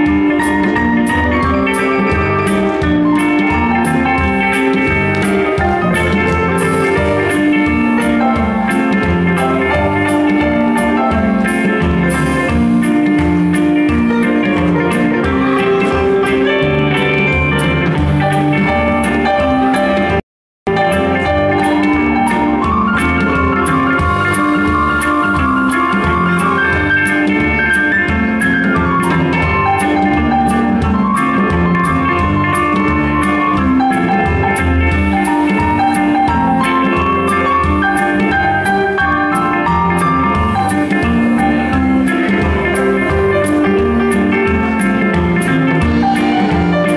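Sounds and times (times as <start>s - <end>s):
drum kit: 0.0s - 46.9s
electric guitars: 0.0s - 46.9s
keyboard: 0.0s - 46.9s.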